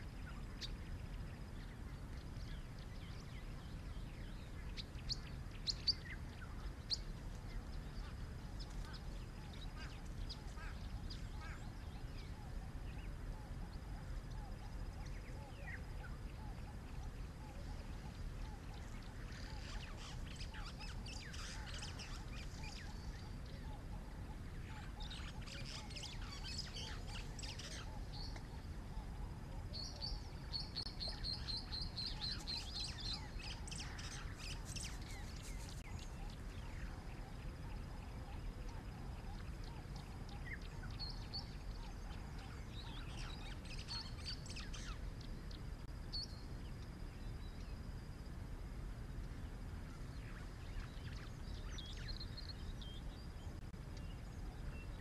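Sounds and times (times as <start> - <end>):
low background noise: 0.0 - 55.0
wild birds chirping: 0.0 - 55.0.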